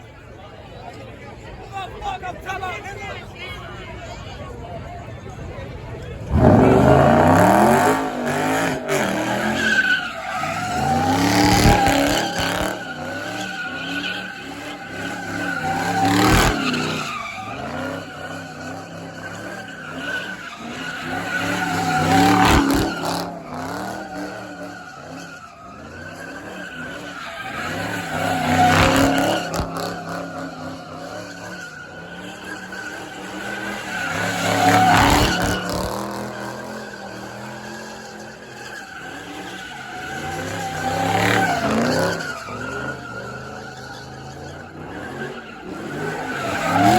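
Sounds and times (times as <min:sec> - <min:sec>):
car engine revving hard: 0:06.2 - 0:46.9
tyres squealing: 0:06.2 - 0:46.9.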